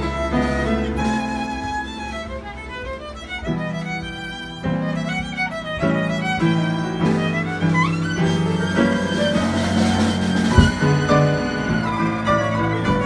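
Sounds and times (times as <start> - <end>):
piano: 0.0 - 13.0
solo violin melody: 0.0 - 13.0.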